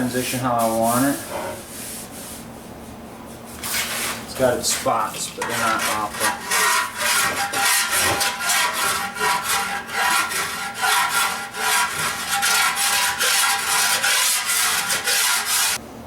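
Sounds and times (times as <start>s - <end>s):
file rasping over metal filler: 0.7s - 1.7s, 3.6s - 15.8s.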